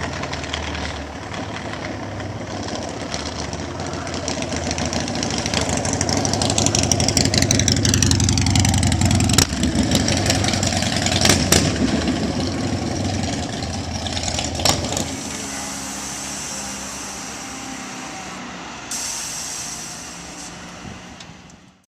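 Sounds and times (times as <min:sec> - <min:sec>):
motorcycle engine running: 0:00.0 - 0:17.7.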